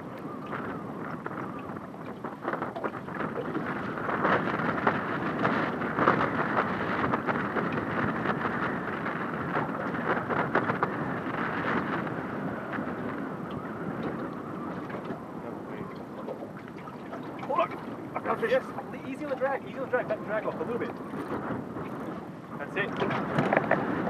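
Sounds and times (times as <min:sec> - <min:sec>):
water splashing against boat: 0:00.0 - 0:24.0
wind blowing over microphone: 0:00.0 - 0:24.0.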